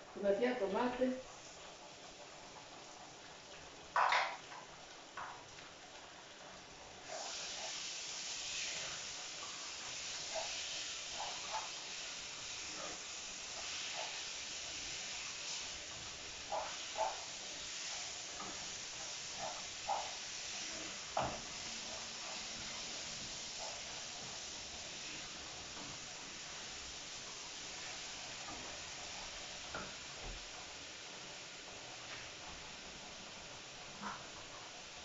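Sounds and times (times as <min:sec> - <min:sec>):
tomatoes sizzling in a frying pan: 0:00.0 - 0:35.0.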